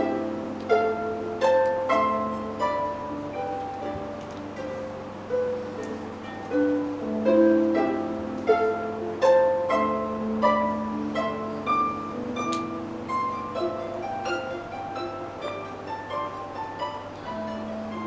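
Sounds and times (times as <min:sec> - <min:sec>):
harp playing: 0:00.0 - 0:18.0.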